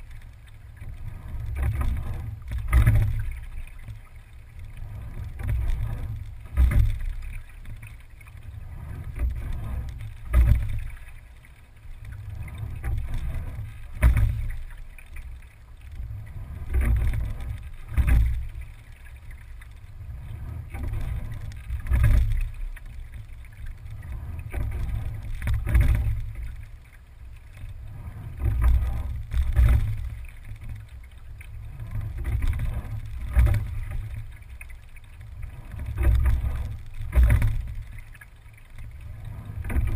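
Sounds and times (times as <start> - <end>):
steady low rumble: 0.0 - 39.9
water running along hull: 0.0 - 39.9.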